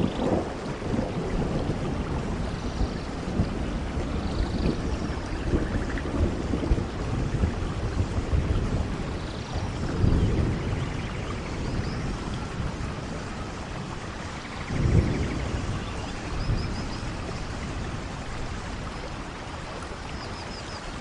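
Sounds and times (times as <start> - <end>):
low rolling thunder: 0.0 - 20.2
steady rain: 0.0 - 21.0.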